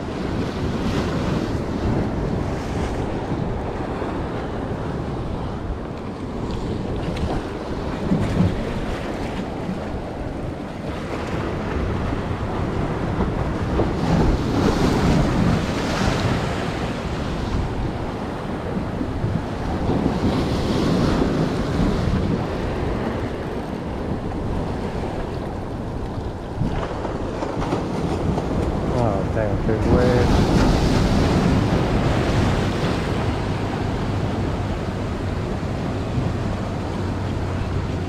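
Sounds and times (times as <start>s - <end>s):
ocean surf washing over rocks: 0.0s - 38.0s
wind noise on microphone: 0.0s - 38.0s.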